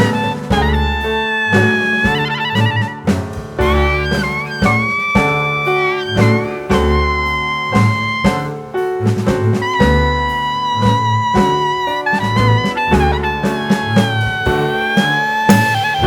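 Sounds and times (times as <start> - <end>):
jazzy tune with saxophone lead: 0.0 - 16.0
steady drum beat: 0.0 - 16.0.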